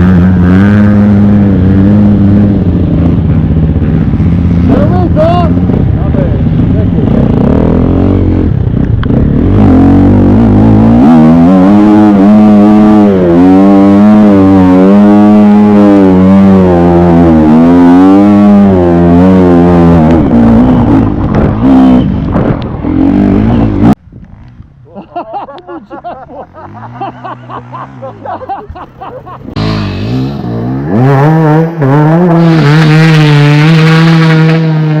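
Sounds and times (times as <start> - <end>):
dirt bike engine revving hard: 0.0 - 22.2, 26.5 - 35.0.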